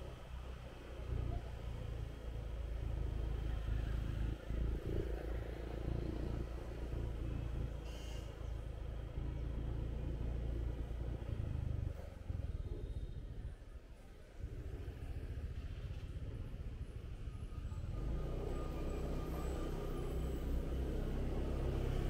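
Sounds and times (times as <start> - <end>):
light street traffic: 0.0 - 22.0.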